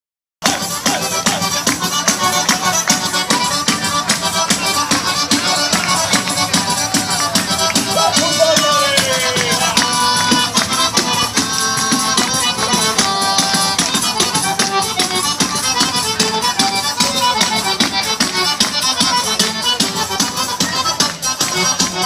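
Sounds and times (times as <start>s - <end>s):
accordion playing fast melody: 0.4s - 22.0s.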